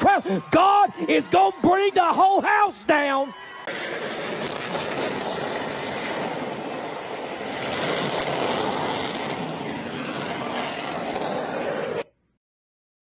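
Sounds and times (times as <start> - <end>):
dense rushing noise: 0.0 - 12.1.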